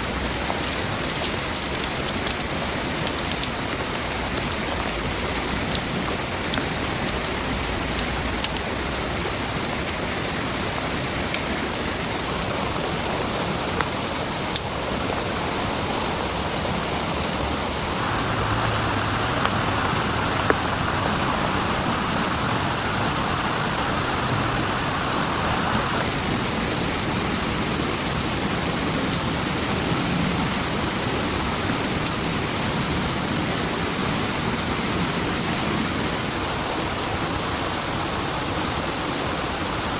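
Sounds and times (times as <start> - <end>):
raindrops ticking: 0.0 - 35.0
heavy rain falling: 0.0 - 39.9.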